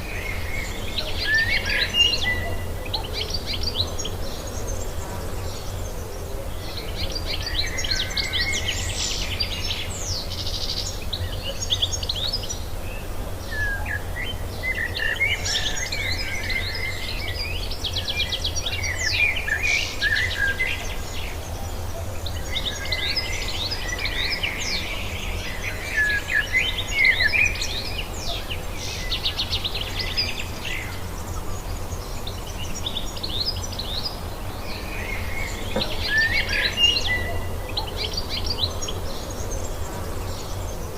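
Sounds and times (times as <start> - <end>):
songbird chirping and warbling: 0.2 - 40.9.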